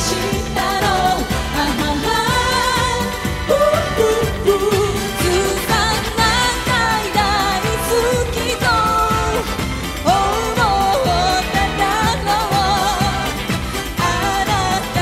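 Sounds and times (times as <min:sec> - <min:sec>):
pop backing track: 0:00.0 - 0:15.0
women singing into microphones: 0:00.0 - 0:15.0.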